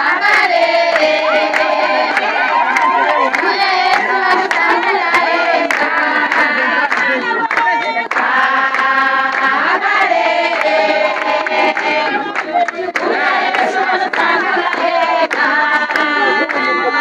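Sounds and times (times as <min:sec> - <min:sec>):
children singing in chorus: 0:00.0 - 0:17.0
hand clapping: 0:00.2 - 0:17.0.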